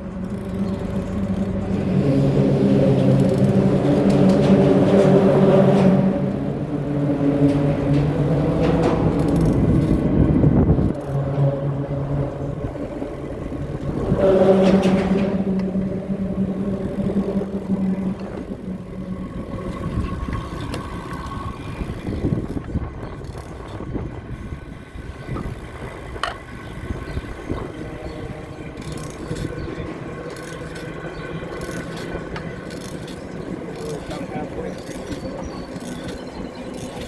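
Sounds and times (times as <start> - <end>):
low rumble of passing traffic: 0.0 - 37.0
vehicle engine hum: 0.0 - 37.0.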